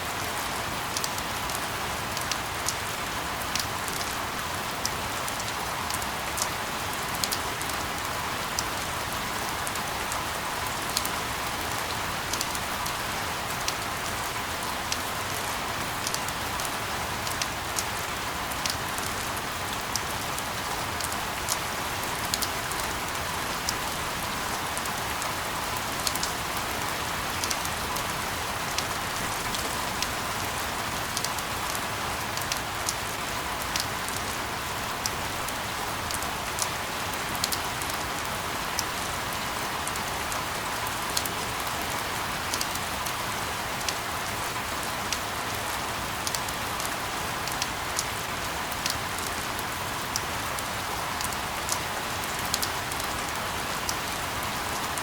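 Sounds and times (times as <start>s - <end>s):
close raindrops ticking: 0.2s - 55.0s.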